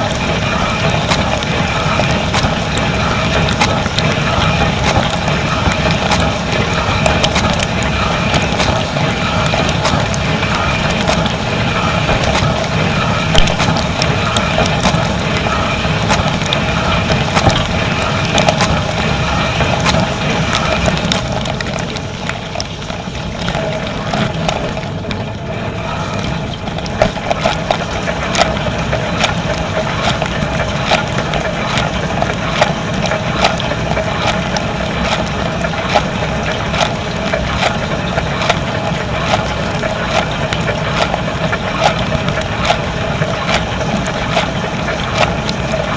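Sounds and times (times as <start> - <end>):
dishwasher pump hum: 0.0 - 45.9
rushing water spray: 0.0 - 45.9.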